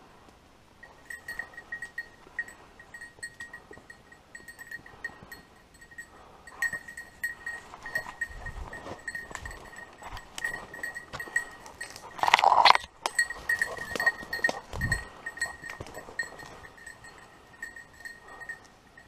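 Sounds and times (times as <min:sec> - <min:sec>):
dog collar bell jingling: 0:00.8 - 0:19.0.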